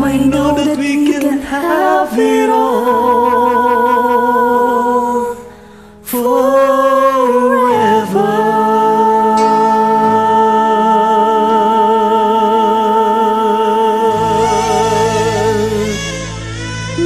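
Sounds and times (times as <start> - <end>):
man and woman singing duet: 0.0 - 16.3
karaoke backing track: 0.0 - 17.0.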